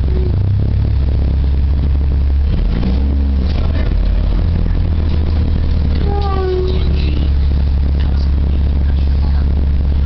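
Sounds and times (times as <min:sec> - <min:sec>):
bus engine low rumble: 0:00.0 - 0:10.0
road and cabin noise: 0:00.0 - 0:10.0.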